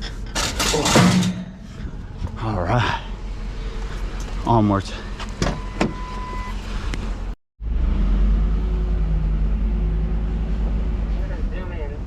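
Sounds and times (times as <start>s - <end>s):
road rumble: 0.0s - 12.0s
truck engine: 0.0s - 12.0s.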